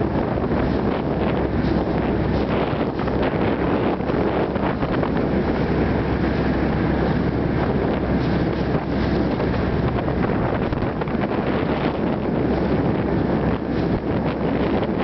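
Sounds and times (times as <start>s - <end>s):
motorboat rushing: 0.0s - 15.0s
wind buffeting microphone: 0.0s - 15.0s.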